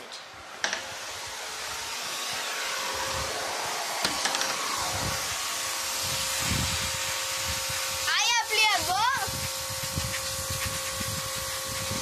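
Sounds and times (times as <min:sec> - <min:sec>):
pressure washer jet hissing: 0:00.5 - 0:12.0.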